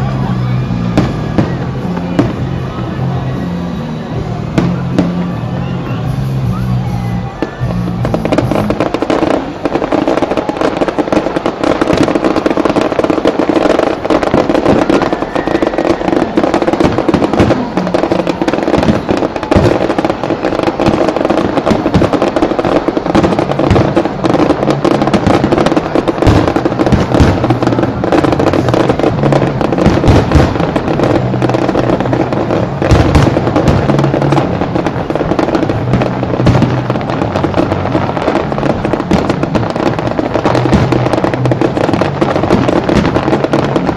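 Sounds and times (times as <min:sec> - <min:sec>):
fireworks bangs and crackles: 0:00.0 - 0:43.9
music playing: 0:00.0 - 0:43.9.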